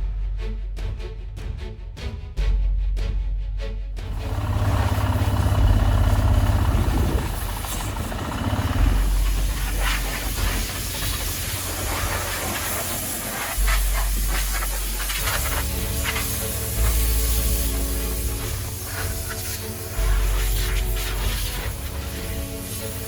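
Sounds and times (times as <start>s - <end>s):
large engine running: 4.0s - 23.0s
loud even hiss: 4.1s - 23.0s.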